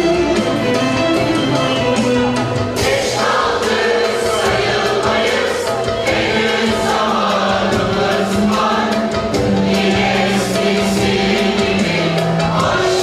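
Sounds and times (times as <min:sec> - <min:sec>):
mixed choir singing: 0:02.3 - 0:13.0.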